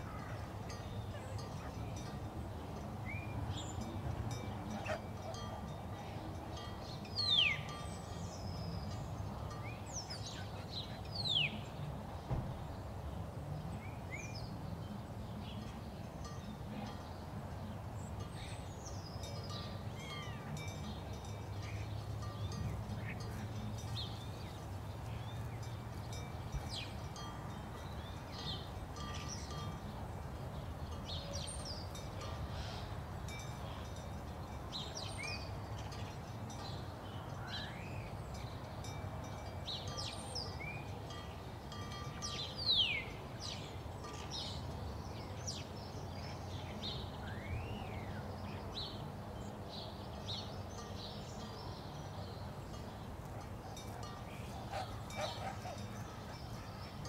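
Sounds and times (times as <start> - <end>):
many birds chirping: 0.0 - 13.0, 13.6 - 57.0.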